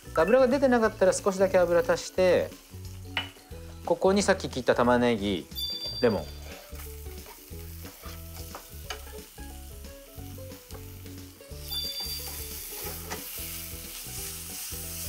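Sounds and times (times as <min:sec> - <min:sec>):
food sizzling in a frying pan: 0:00.0 - 0:15.0
low background music: 0:00.0 - 0:15.0.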